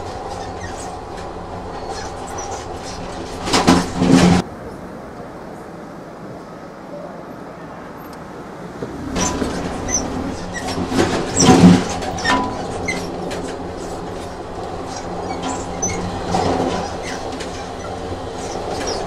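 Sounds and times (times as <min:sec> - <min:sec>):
wheels clicking over rail joints: 0:00.0 - 0:04.5, 0:08.0 - 0:19.0
train running on rails: 0:00.0 - 0:19.0.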